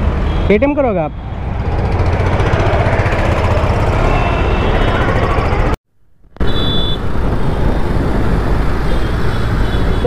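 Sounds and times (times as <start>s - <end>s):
traffic: 0.0s - 10.0s
motor scooter road rumble: 1.1s - 5.8s, 6.4s - 10.0s.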